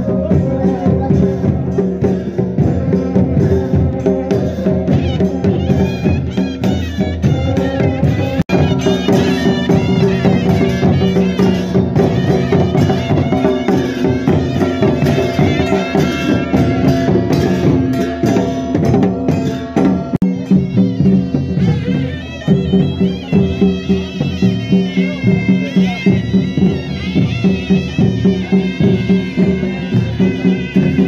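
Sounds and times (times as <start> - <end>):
barrel drums beating: 0.0 - 31.0
wind instrument melody: 0.0 - 31.0
brass plate struck with stick: 0.4 - 31.0.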